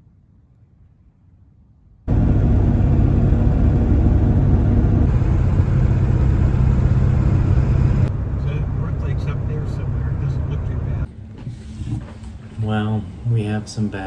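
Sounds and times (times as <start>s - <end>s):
road noise: 2.0s - 14.0s
truck engine drone: 2.1s - 14.0s.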